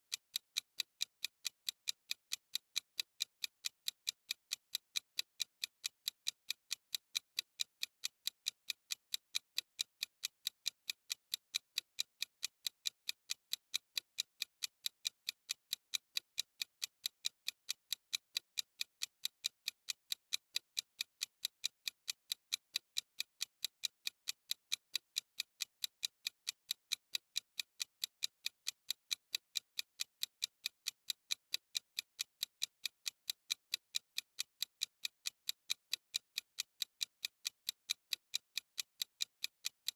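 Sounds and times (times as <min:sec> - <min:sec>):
clock ticking: 0:00.1 - 0:39.9.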